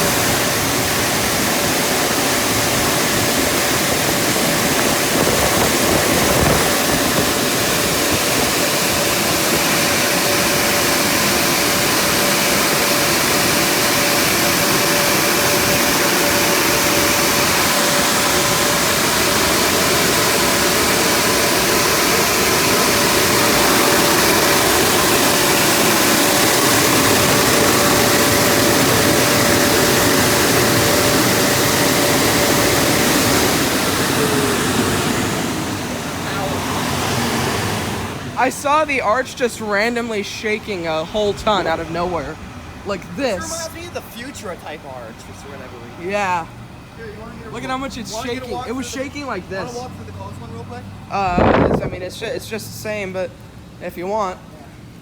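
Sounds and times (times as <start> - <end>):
car wash dryers blowing: 0.0 - 55.0
steady hum: 0.0 - 55.0.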